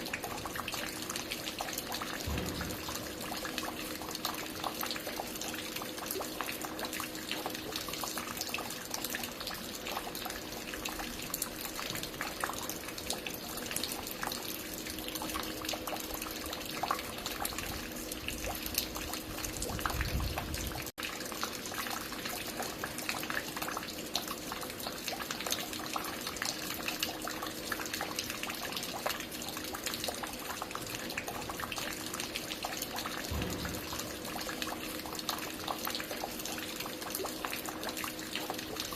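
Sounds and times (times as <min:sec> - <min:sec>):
water dripping and spattering: 0:00.0 - 0:38.9.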